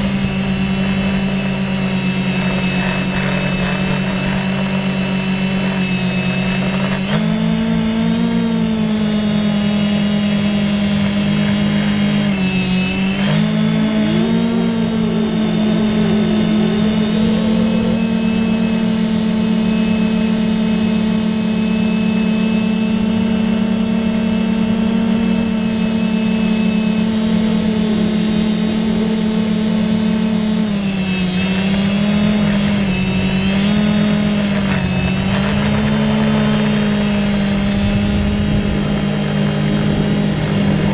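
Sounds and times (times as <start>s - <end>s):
drone motors humming: 0.0s - 40.9s
high electronic whine: 0.0s - 40.9s.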